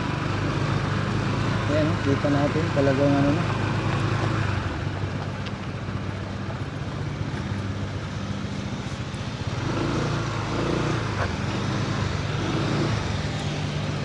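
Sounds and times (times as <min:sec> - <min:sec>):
road noise: 0:00.0 - 0:14.0
vehicle engine running: 0:00.0 - 0:14.0.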